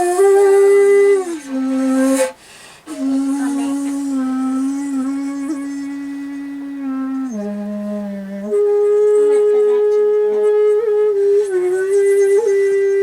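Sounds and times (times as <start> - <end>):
bamboo flute long notes: 0.0 - 13.0.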